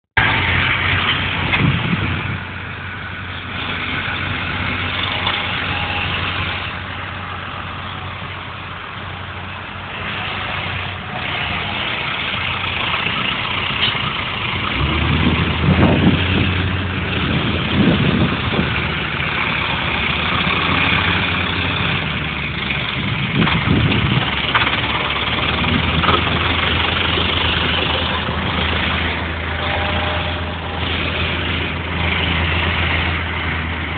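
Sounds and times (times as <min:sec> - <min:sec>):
deeper louder engine note: 0:00.2 - 0:33.9
tractor engines humming: 0:00.2 - 0:33.9.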